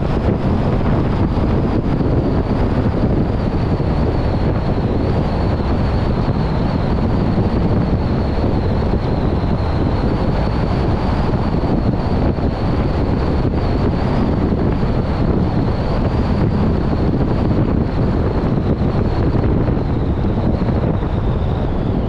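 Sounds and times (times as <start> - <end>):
car road and wind noise: 0.0 - 22.0
faint high whine: 0.0 - 22.0.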